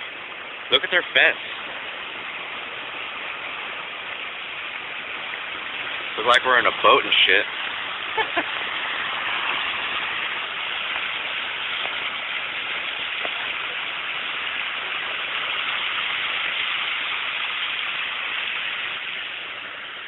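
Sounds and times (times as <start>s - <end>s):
car driving through water: 0.0s - 20.0s
tyres hissing spray of water: 0.0s - 20.0s.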